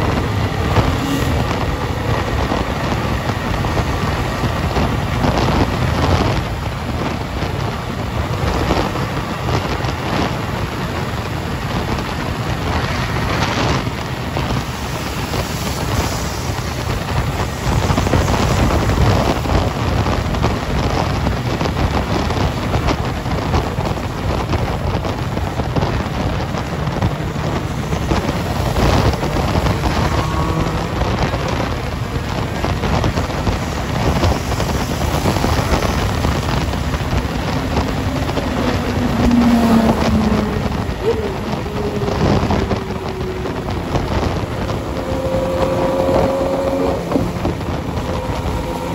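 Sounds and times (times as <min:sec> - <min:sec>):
motorcycle engine: 0:00.0 - 0:48.9
road noise: 0:00.0 - 0:48.9
wind buffeting microphone: 0:00.0 - 0:48.9.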